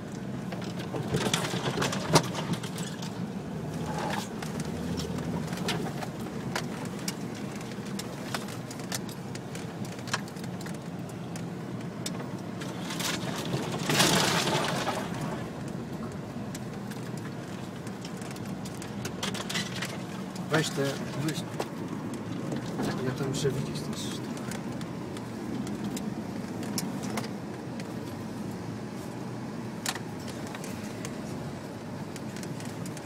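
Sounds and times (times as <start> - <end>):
body knocks and rattles: 0.3 - 28.2.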